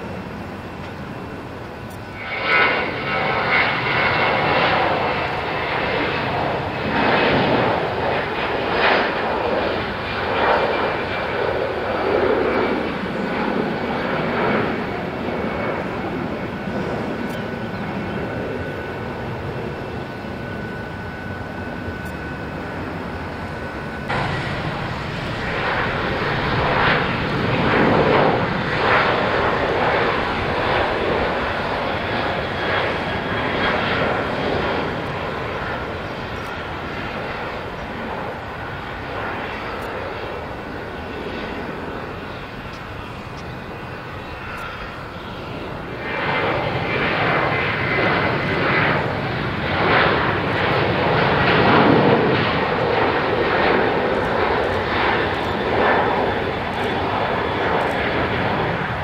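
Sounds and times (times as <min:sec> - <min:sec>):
jet engines roaring at high thrust: 0:00.0 - 0:59.0
jet engines whining: 0:00.0 - 0:59.0.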